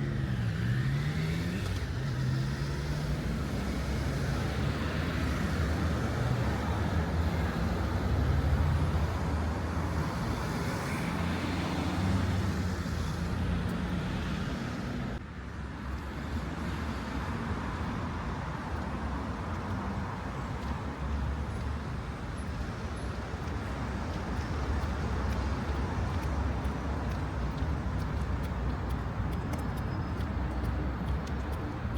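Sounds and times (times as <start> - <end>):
road traffic rumble: 0.0 - 31.9.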